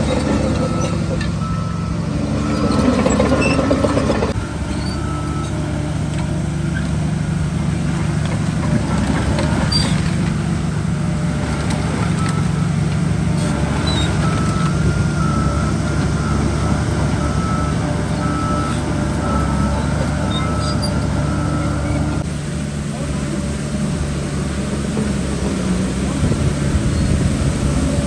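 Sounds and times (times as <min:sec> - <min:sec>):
heavy machinery diesel engine: 0:00.0 - 0:28.0
rough rumbling noise: 0:00.0 - 0:28.0.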